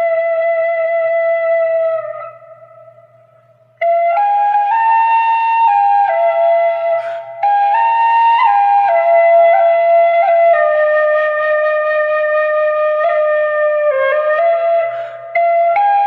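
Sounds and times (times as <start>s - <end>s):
flute playing slow melody: 0.0s - 16.0s.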